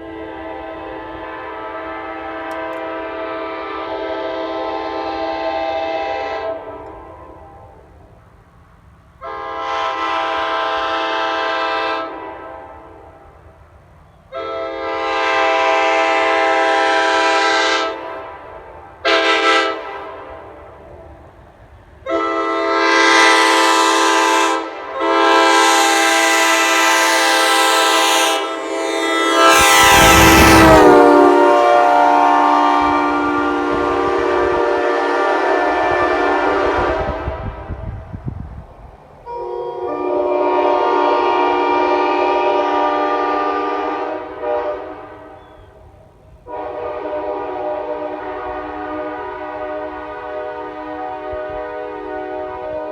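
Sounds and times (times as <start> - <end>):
train horn blasts: 0.0 - 8.0, 9.2 - 13.5, 14.2 - 38.6, 39.2 - 52.9.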